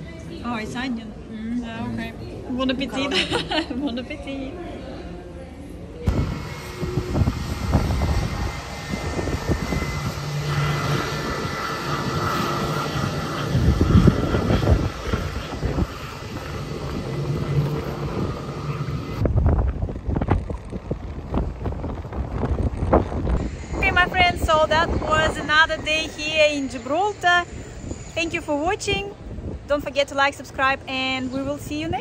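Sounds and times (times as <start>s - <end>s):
jet engines rushing and whining: 6.0s - 32.0s
wind gusting on microphone: 6.0s - 32.0s.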